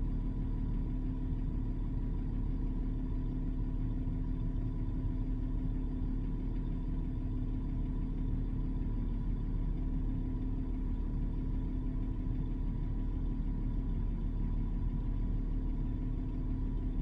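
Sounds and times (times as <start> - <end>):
car engine idling inside cabin: 0.0 - 17.0.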